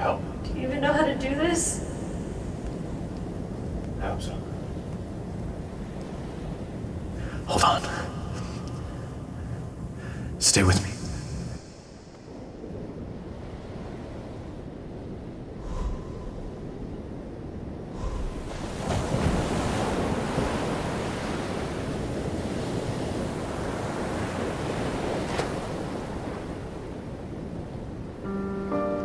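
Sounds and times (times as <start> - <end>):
ocean surf washing in: 0.0 - 29.0
wind: 0.0 - 29.0.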